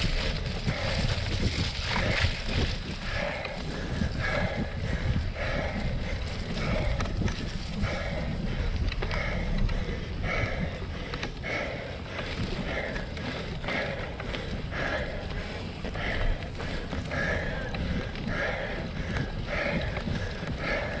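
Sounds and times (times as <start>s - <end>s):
tyres and wind rumbling: 0.0s - 21.0s.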